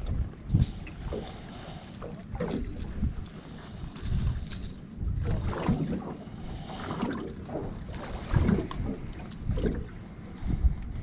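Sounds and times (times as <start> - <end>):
water lapping against boat: 0.0 - 11.0
wind on microphone: 0.0 - 11.0.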